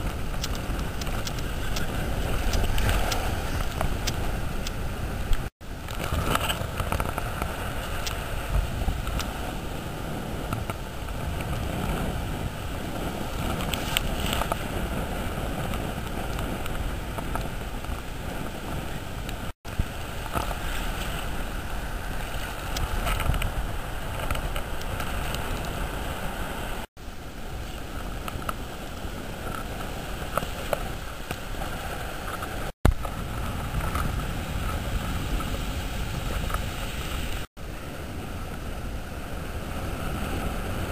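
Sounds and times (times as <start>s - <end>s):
shallow surf washing: 0.0s - 40.9s
wind rumbling on microphone: 0.0s - 40.9s.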